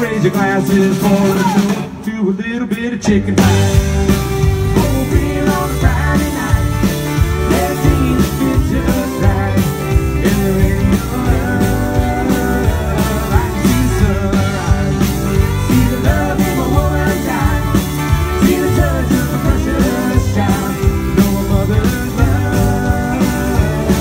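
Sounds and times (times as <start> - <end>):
bass guitar: 0.0 - 24.0
drum kit beat: 0.0 - 24.0
electric guitars: 2.8 - 24.0.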